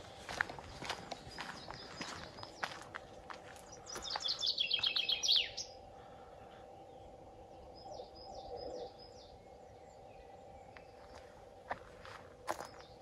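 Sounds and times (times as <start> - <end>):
faint steady hum: 0.0 - 13.0
songbird singing: 0.0 - 13.0.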